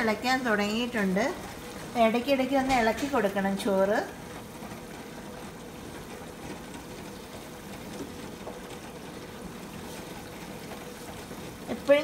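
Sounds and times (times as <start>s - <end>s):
rice boiling and bubbling: 0.0s - 12.0s
wooden spatula stirring pot: 0.0s - 12.0s.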